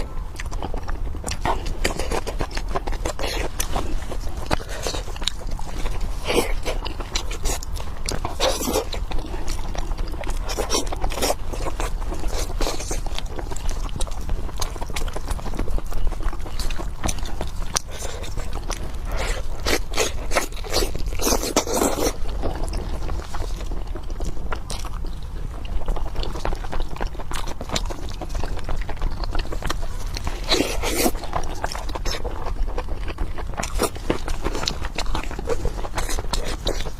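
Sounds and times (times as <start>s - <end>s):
person chewing with wet clicks: 0.0s - 36.9s
steady low hum: 0.0s - 36.9s.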